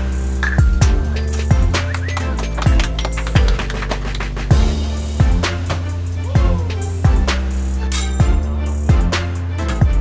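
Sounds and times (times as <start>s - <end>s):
held bass line: 0.0s - 10.0s
hip hop beat: 0.0s - 10.0s.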